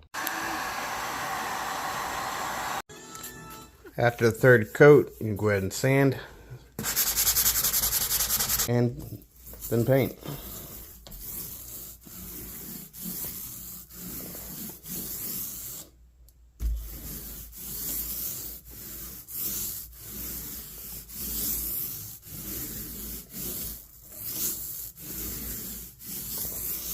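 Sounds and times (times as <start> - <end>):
hand sanding drywall compound: 4.1 - 16.0, 16.6 - 26.9.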